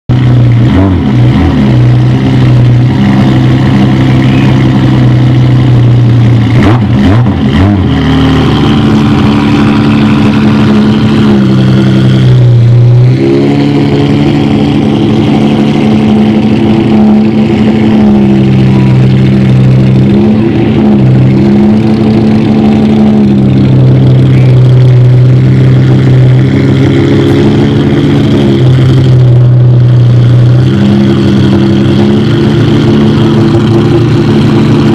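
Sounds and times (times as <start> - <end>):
car engine idling with throttle blips: 0.1 - 34.9.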